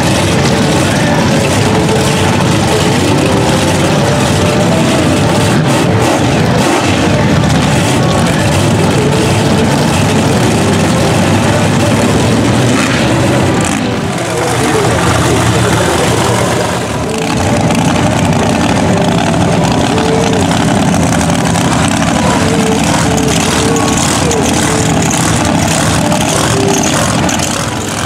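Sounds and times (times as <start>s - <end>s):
truck engines revving: 0.0s - 28.0s.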